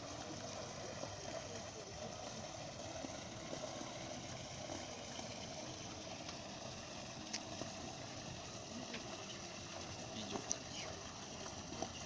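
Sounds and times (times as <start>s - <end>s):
waterfall splashing into basin: 0.0s - 12.0s.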